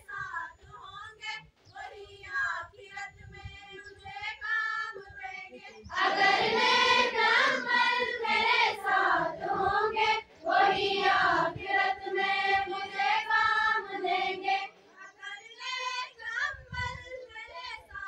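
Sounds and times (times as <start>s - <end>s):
girls singing in unison: 1.8s - 14.9s, 15.5s - 18.0s.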